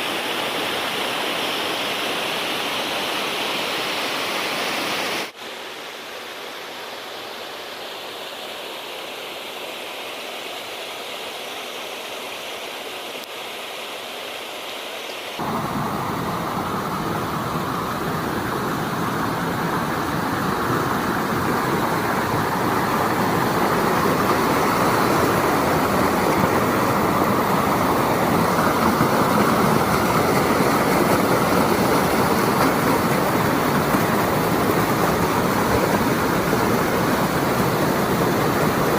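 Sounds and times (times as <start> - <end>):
waterfall and river rushing: 0.0 - 38.9.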